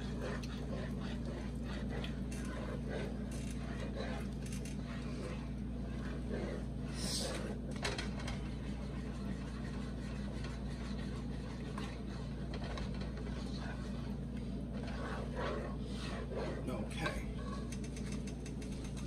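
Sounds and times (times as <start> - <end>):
spatula scraping metal pot: 0.0 - 18.3
steady low hum: 0.0 - 19.0.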